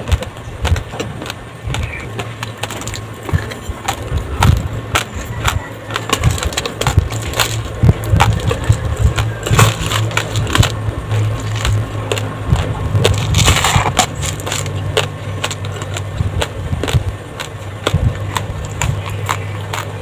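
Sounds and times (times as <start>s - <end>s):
crunching rice grains: 0.0s - 20.0s
steady low hum: 0.0s - 20.0s.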